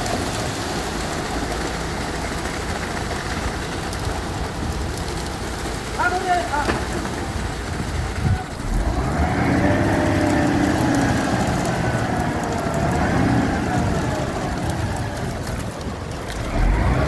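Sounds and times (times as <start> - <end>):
heavy vehicle engine running: 0.0 - 17.0.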